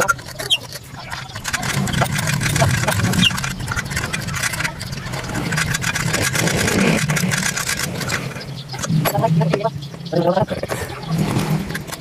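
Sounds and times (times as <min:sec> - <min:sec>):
clicks and rattles: 0:00.0 - 0:12.0
portable generator engine running: 0:00.0 - 0:12.0.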